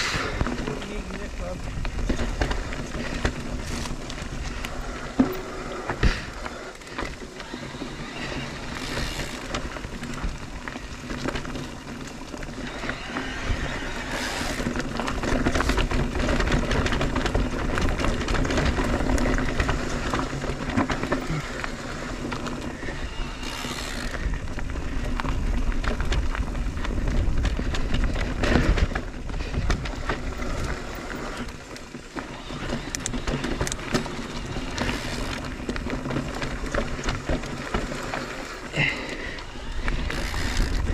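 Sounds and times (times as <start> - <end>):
wind buffeting microphone: 0.0 - 31.7, 38.8 - 40.9
bike rattling: 0.0 - 40.9
bike tyre rumble: 0.0 - 40.9.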